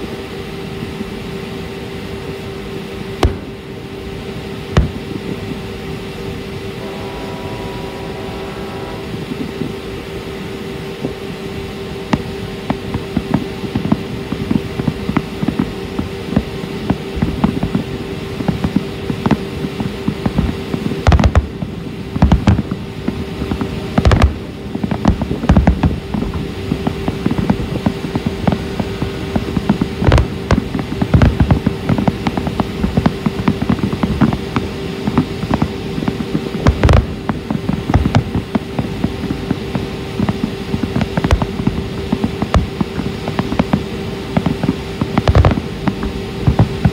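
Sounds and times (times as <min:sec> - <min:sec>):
boat engine hum: 0:00.0 - 0:46.9
fireworks booming and crackling: 0:00.0 - 0:46.9.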